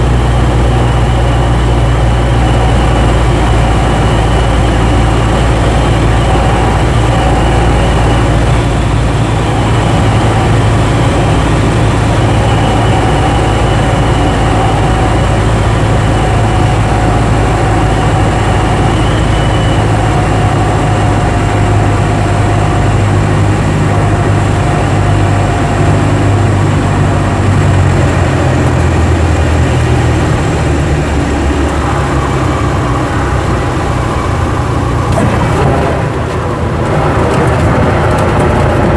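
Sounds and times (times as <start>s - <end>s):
light aircraft engine from cabin: 0.0s - 38.9s.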